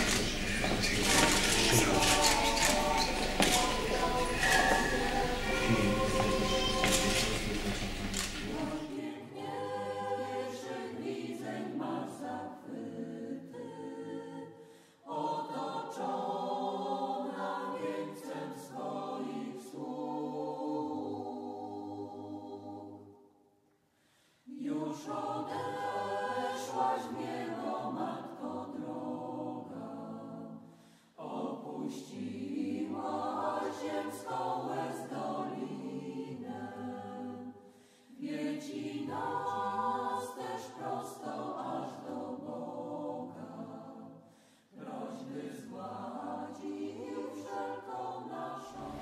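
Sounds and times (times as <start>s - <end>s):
choir singing: 0.0s - 23.4s, 24.4s - 49.0s.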